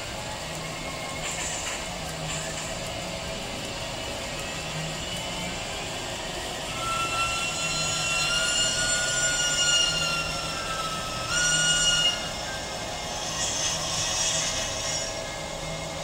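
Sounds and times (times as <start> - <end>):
model locomotive high whine: 0.0 - 16.0.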